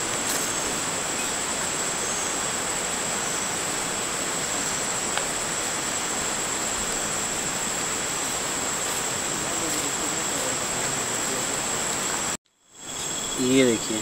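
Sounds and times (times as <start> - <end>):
rushing water roar: 0.0 - 12.4
high insect drone: 0.0 - 14.0.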